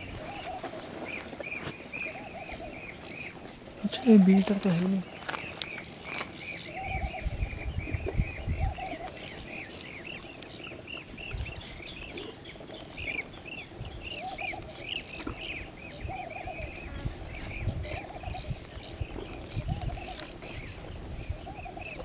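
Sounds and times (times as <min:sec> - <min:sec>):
birds chirping: 0:00.0 - 0:22.0
lower bird calls: 0:00.0 - 0:22.0.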